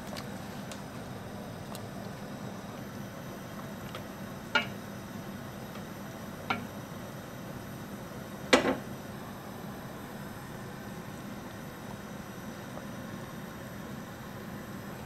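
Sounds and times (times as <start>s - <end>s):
gas burner and water hiss: 0.0s - 15.0s.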